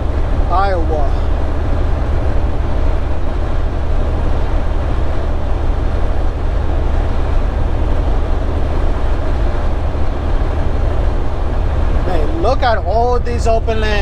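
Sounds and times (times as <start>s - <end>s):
truck engine drone: 0.0s - 14.0s.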